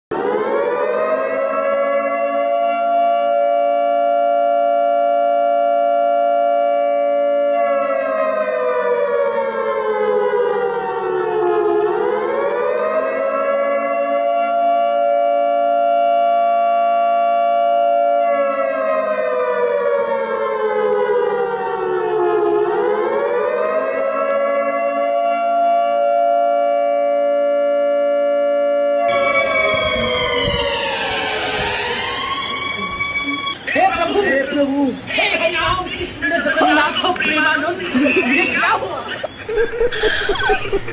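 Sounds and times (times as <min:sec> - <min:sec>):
air-raid siren wailing: 0:00.1 - 0:40.9.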